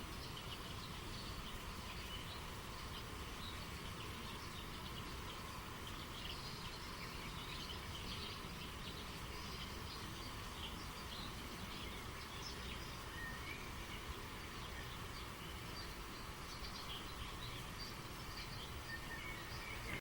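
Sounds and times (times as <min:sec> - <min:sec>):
flowing stream water: 0:00.0 - 0:20.0
small birds chirping: 0:00.0 - 0:20.0.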